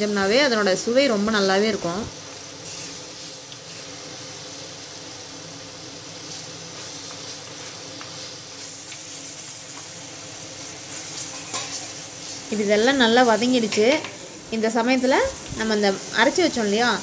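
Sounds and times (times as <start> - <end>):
masala paste sizzling in oil: 0.0 - 17.0.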